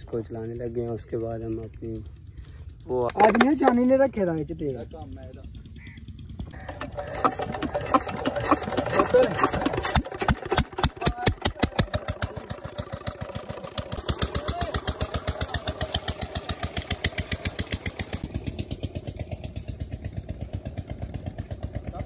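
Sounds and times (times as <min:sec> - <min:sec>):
diesel engine chugging: 0:00.0 - 0:22.0.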